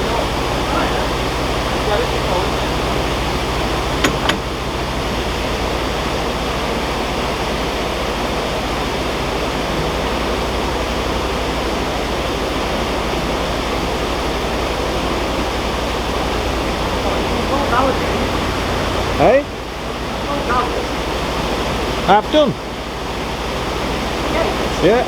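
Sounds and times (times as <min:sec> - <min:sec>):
water rushing through canal lock: 0:00.0 - 0:25.0.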